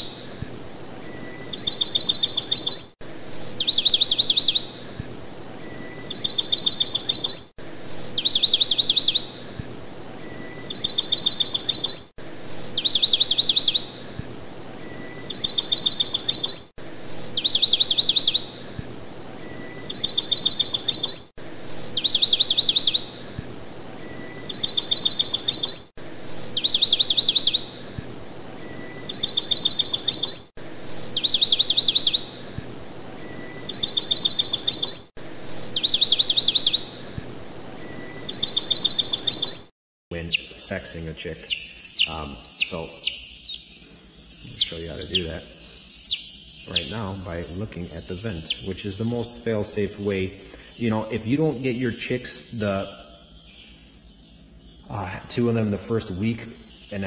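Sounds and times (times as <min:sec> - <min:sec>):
small bird chirping and trilling: 0:00.0 - 0:40.7, 0:41.3 - 0:48.9, 0:52.5 - 0:55.2
faint steady hiss: 0:00.0 - 0:57.0.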